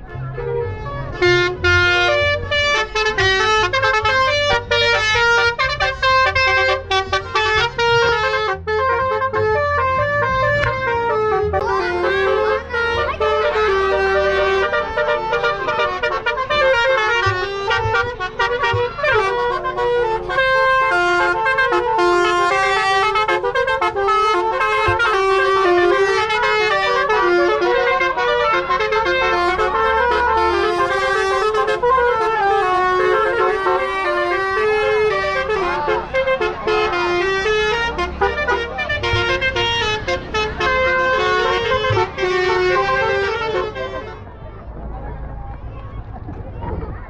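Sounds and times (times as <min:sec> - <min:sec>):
bus horn playing melody: 0:00.0 - 0:44.4
bus engine running: 0:00.0 - 0:47.0.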